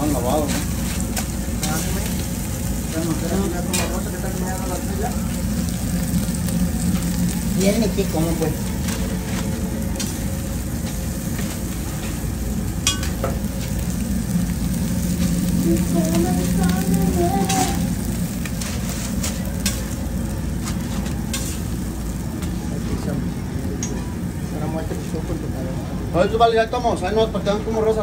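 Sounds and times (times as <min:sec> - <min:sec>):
food sizzling on a griddle: 0:00.0 - 0:28.0
steady low hum: 0:00.0 - 0:28.0.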